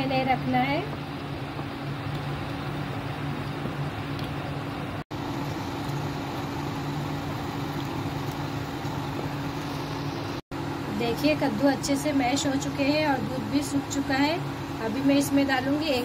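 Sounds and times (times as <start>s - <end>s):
cooling fan humming: 0.0s - 16.0s.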